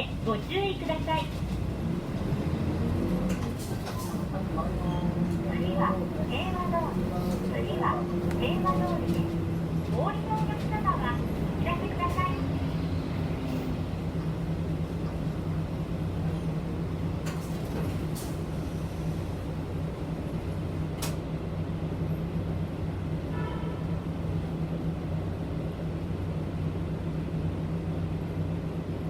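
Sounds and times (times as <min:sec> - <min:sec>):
bus engine humming: 0:00.0 - 0:29.0.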